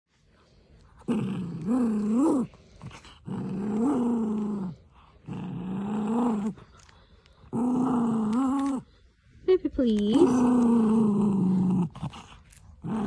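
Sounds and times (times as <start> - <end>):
small dog growling: 0.8 - 9.0, 10.1 - 13.0.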